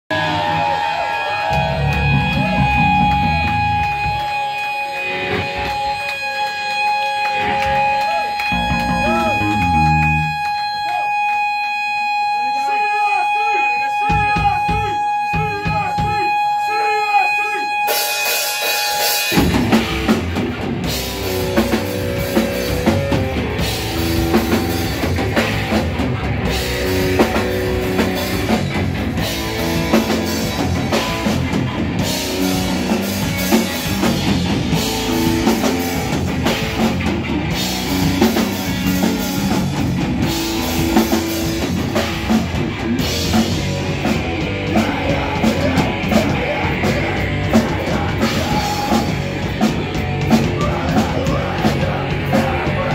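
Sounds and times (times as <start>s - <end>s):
pounding drum kit: 0.1s - 11.2s, 13.9s - 16.5s, 17.8s - 52.9s
live rock band playing: 0.1s - 52.9s.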